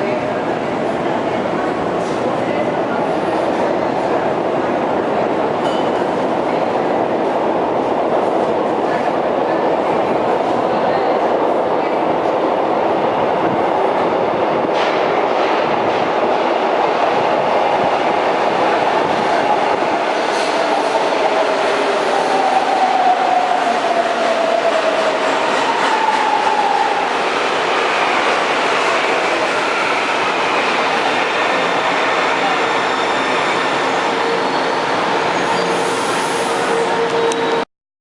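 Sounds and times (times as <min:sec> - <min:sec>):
subway train rumbling on rails: 0:00.0 - 0:37.6.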